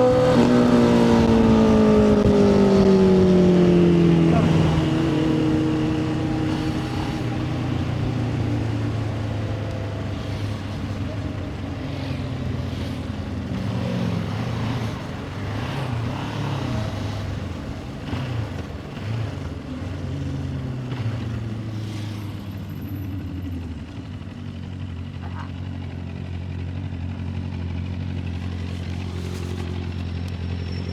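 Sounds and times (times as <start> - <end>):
motorcycle engine revving and idling: 0.0 - 30.9.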